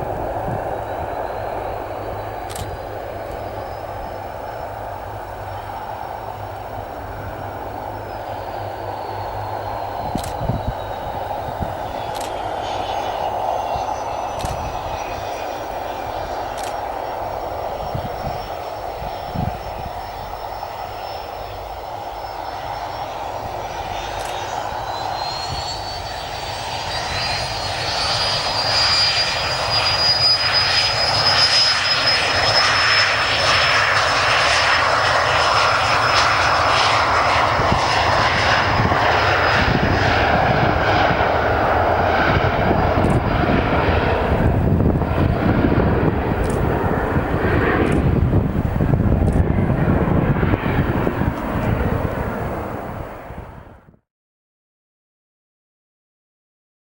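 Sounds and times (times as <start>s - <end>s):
jet rush: 0.0s - 53.8s
jet engines whining: 0.0s - 53.9s.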